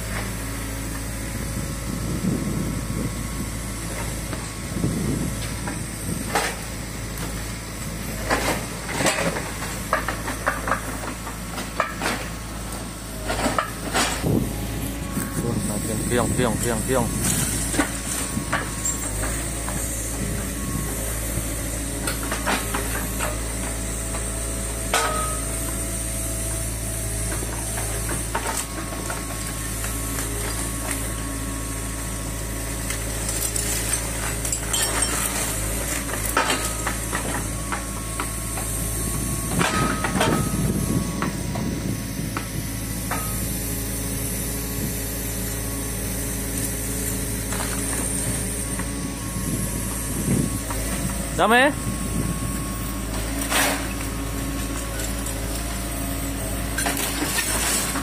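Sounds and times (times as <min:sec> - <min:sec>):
mini excavator running: 0:00.0 - 0:58.0
rubble and metal clunking: 0:03.9 - 0:25.8, 0:26.9 - 0:43.4, 0:46.7 - 0:58.0.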